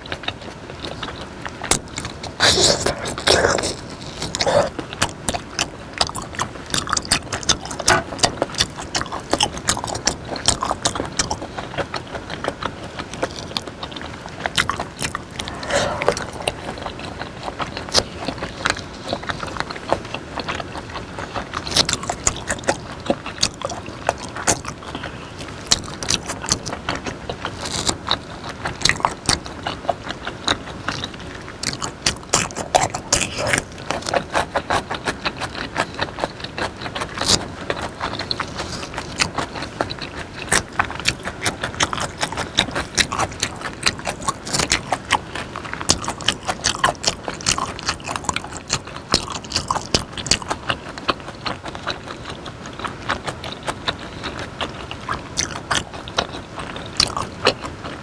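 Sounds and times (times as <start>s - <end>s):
chewing and mouth smacking: 0.0s - 58.0s
cucumber crunching: 0.0s - 58.0s.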